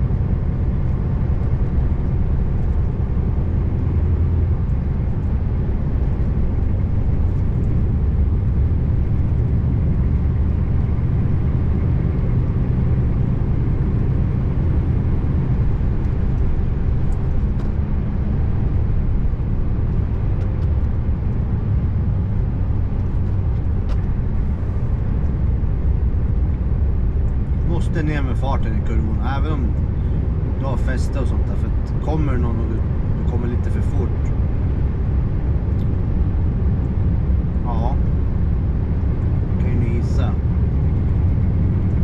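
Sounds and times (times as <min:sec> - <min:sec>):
road noise: 0:00.0 - 0:42.0
truck engine droning: 0:00.0 - 0:42.0.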